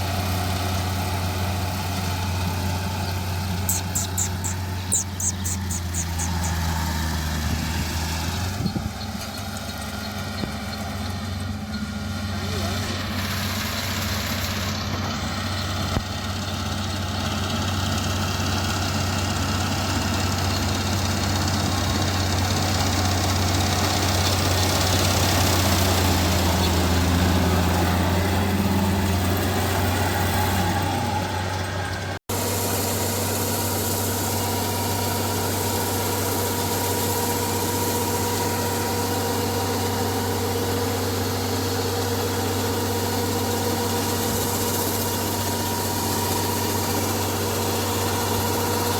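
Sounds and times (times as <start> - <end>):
harvester engine running: 0.0 - 48.9.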